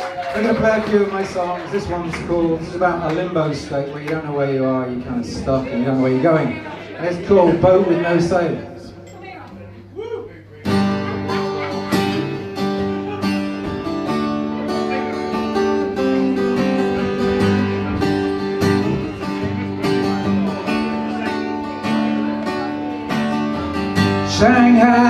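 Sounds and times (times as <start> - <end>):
strummed acoustic guitar: 0.0 - 9.0, 10.6 - 25.0
second guitar: 0.0 - 25.0.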